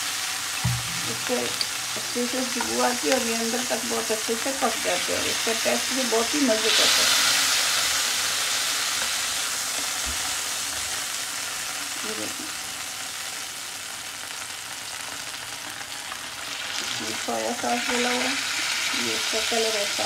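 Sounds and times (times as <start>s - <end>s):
chicken sizzling in grill pan: 0.0s - 20.0s.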